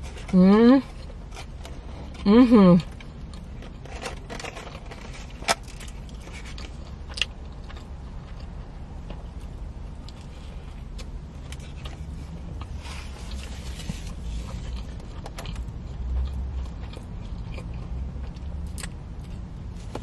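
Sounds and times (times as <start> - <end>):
low car cabin hum: 0.0 - 20.0
person chewing a sandwich: 0.0 - 20.0.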